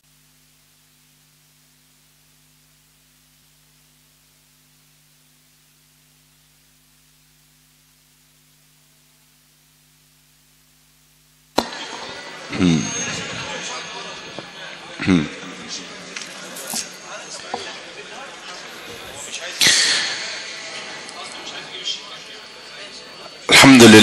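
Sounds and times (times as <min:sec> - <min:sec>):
faint steady hiss: 0:00.0 - 0:24.0
low electrical hum: 0:00.0 - 0:24.0.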